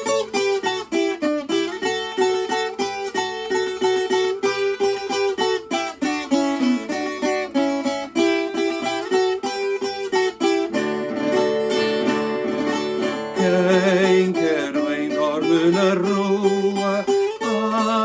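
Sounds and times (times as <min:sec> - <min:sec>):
plucked folk guitar: 0:00.0 - 0:18.0.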